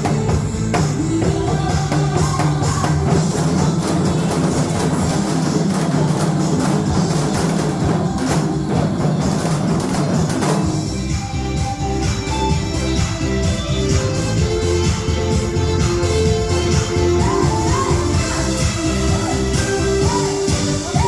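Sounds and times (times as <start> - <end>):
upbeat song with drum beat: 0.0 - 21.0.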